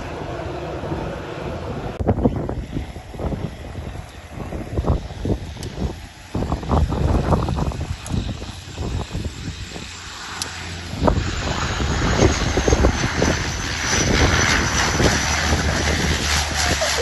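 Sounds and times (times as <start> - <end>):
turboprop plane engines droning: 0.0 - 17.0
wind buffeting microphone: 0.0 - 17.0.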